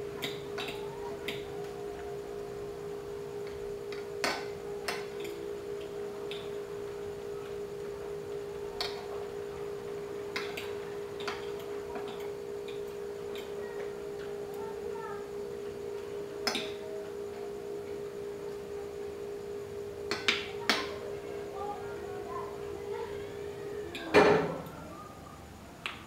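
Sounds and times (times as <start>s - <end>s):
steady humming tone: 0.0s - 26.0s.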